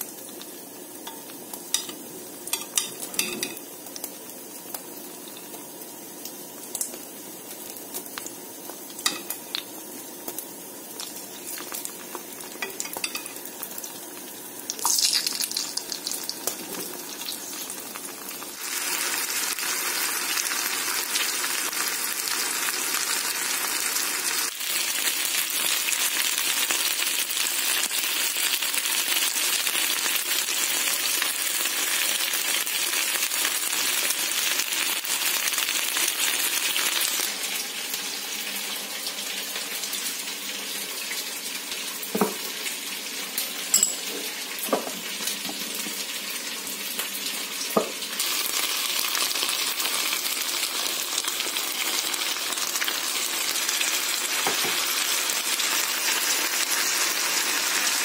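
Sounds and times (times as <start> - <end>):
chicken sizzling in oil: 0.0 - 58.0.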